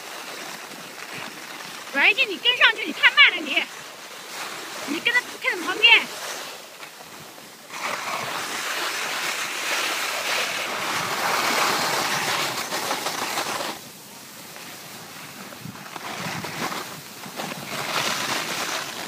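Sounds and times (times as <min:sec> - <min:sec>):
skis sliding over snow: 0:00.0 - 0:19.0.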